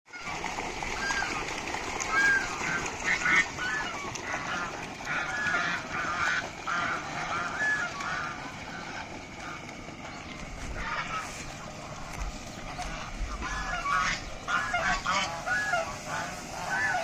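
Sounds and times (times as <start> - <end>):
geese honking: 0.1 - 17.0.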